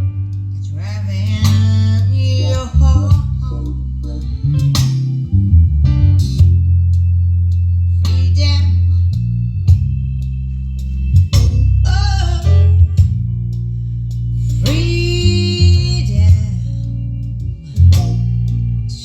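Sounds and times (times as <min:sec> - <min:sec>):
loud recorded music with bass and guitar: 0:00.0 - 0:19.0
short melodic phrases: 0:00.0 - 0:19.0.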